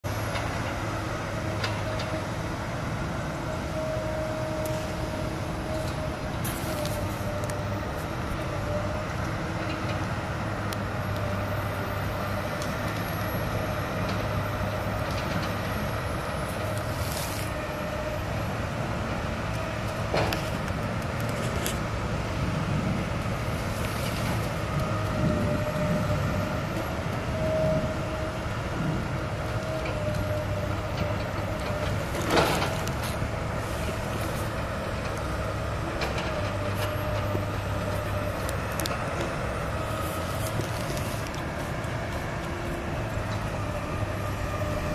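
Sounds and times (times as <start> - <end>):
excavator engine drone: 0.0 - 44.9.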